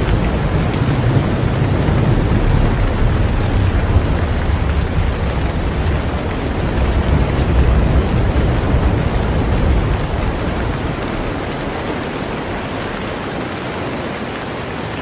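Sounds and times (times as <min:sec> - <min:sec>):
heavy rain on a boat: 0:00.0 - 0:15.0.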